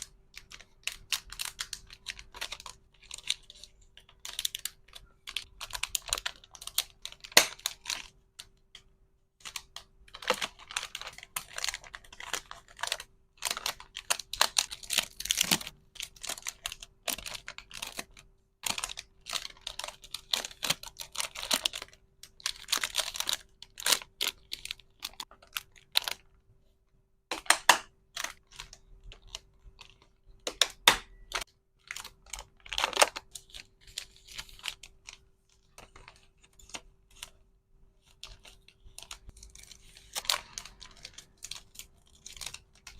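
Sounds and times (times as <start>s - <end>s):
plastic packaging crinkling: 0.0s - 8.7s, 9.4s - 26.3s, 28.1s - 37.4s, 38.0s - 42.9s
plastic items clicking and tapping: 0.0s - 26.3s, 27.3s - 37.4s.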